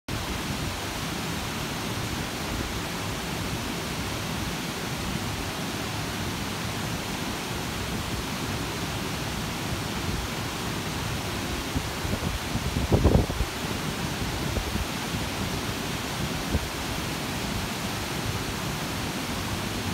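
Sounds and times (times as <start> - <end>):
water cascading down steps: 0.1 - 19.9.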